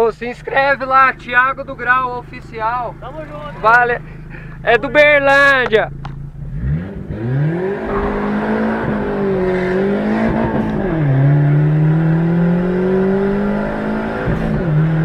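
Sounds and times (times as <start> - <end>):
turbocharged car engine accelerating: 0.0 - 15.0.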